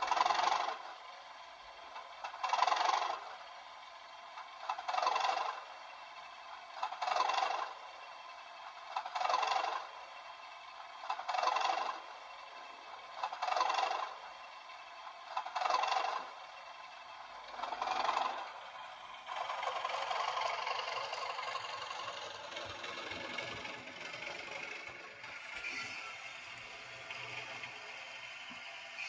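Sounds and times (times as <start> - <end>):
diesel engine sound: 0.0 - 29.0.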